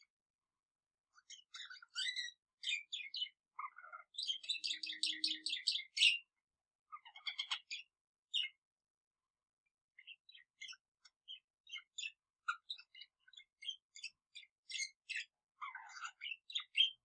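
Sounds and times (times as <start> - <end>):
pet birds singing: 1.1 - 8.7, 9.7 - 17.0.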